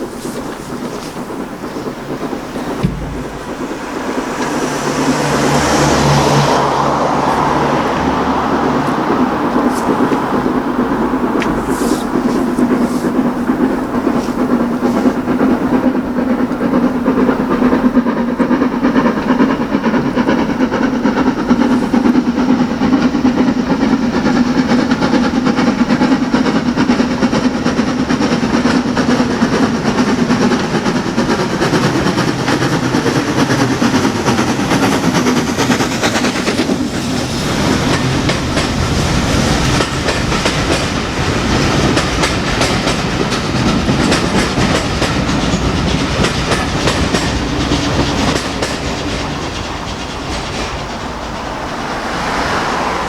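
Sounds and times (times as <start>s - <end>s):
train wheels on track: 0.0s - 53.0s.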